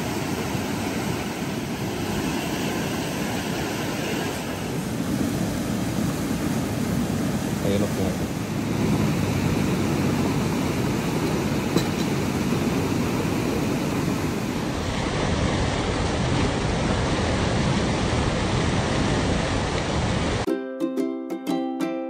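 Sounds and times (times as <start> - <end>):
river rushing over rocks: 0.0 - 20.4.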